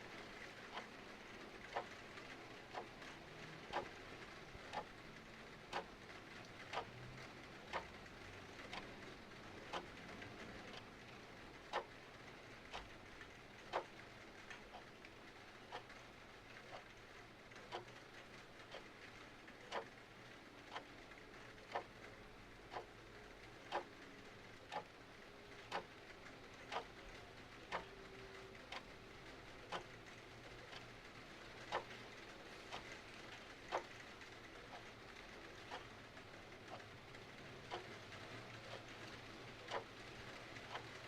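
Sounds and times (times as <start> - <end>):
clock ticking: 0.6 - 5.0, 5.6 - 6.0, 6.6 - 41.0.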